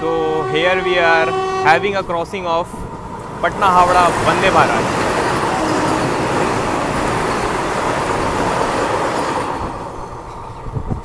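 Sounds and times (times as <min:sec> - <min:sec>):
train running noise: 0:00.0 - 0:11.0
train rushing past: 0:00.0 - 0:11.0.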